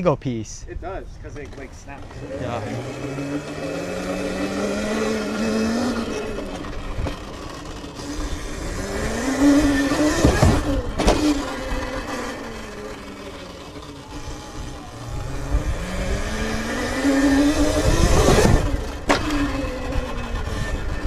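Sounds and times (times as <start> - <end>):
electric dirt bike motor whining: 1.2 - 21.0
sharp thumps: 1.3 - 14.6, 15.3 - 20.2.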